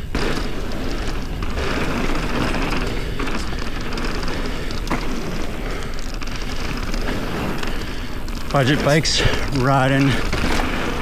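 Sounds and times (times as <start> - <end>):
bike knocks and rattles: 0.0 - 11.0
tyre and trail noise: 0.0 - 11.0.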